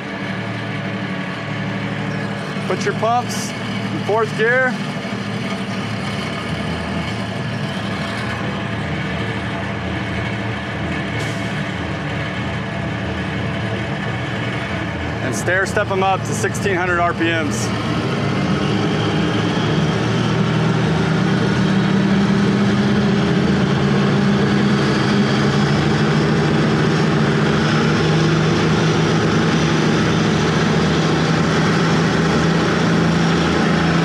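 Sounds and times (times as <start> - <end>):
diesel engines at high revs: 0.0 - 34.0.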